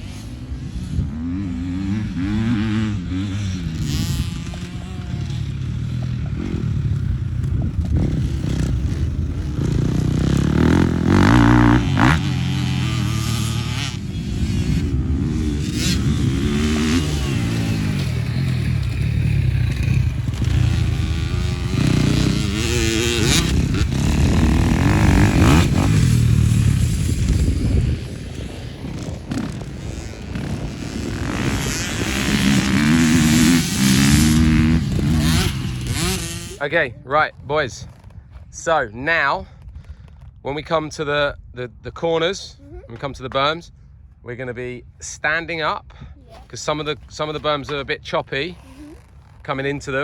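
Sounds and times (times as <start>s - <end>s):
dirt bike engines revving: 0.0s - 50.0s.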